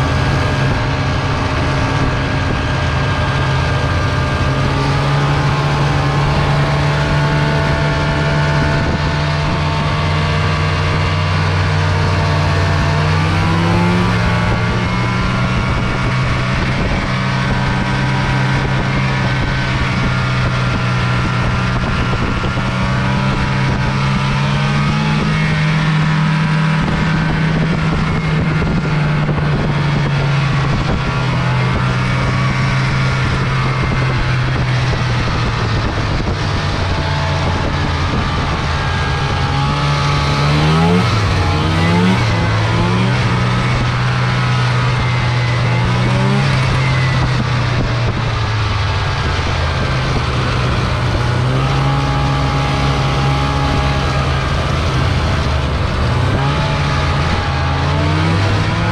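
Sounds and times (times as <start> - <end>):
snowmobile engine running: 0.0 - 58.9.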